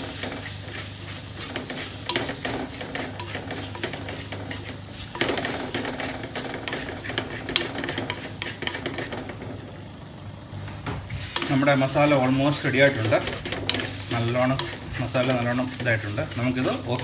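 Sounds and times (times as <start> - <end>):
wooden spatula scraping a pan: 0.0 - 9.5, 11.1 - 17.0
light sizzle: 0.0 - 17.0.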